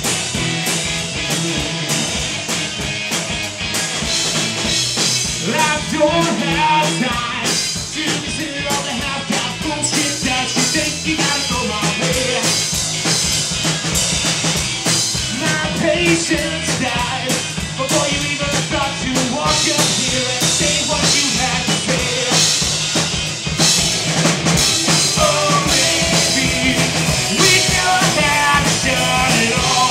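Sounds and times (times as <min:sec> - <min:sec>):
drum kit: 0:00.0 - 0:29.9
electric guitars: 0:00.0 - 0:29.9.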